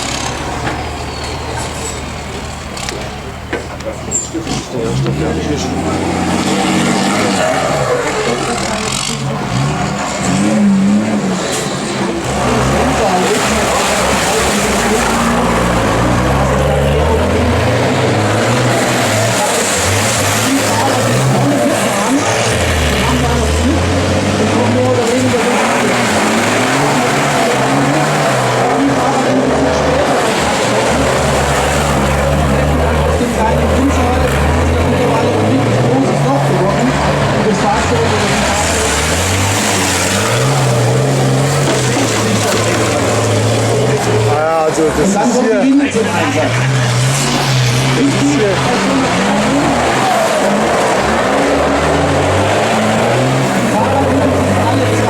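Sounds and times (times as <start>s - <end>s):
truck engine revving: 0.0s - 55.0s
loud rushing noise: 4.5s - 55.0s.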